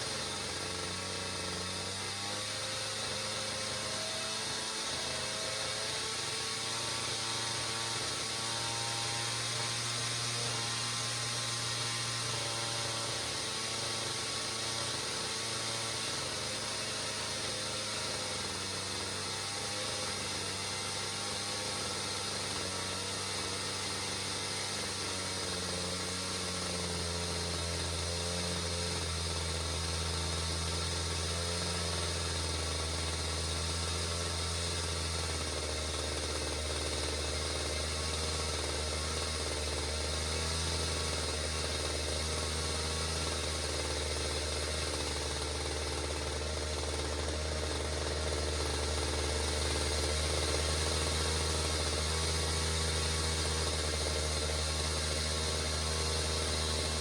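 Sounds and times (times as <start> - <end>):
chainsaw engine idling: 0.0 - 57.0.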